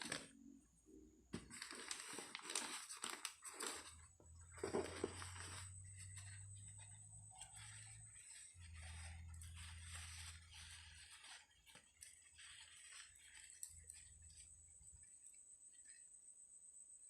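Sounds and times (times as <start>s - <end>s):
rustling and handling noises: 0.0s - 0.4s, 1.3s - 16.2s.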